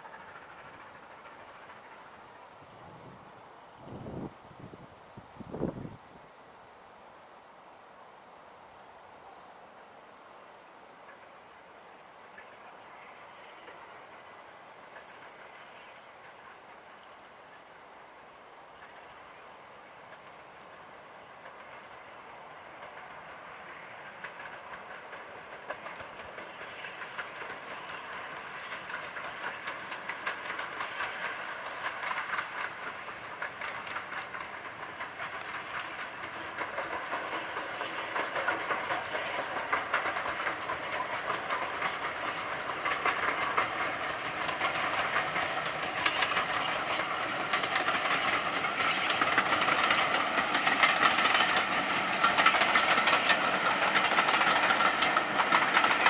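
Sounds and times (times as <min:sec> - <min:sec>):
wheels clattering over rail joints: 0:00.0 - 0:04.9, 0:11.0 - 0:17.8, 0:18.5 - 0:56.0
steam locomotive: 0:00.0 - 0:56.0.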